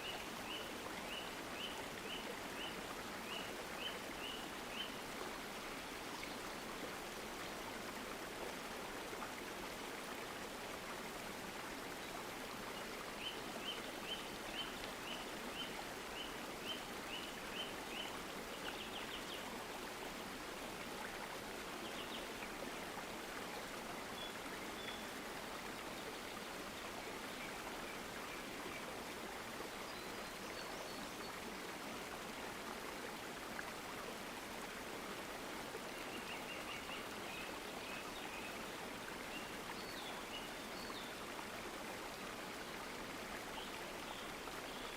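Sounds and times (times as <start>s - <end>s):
stream water running: 0.0s - 44.9s.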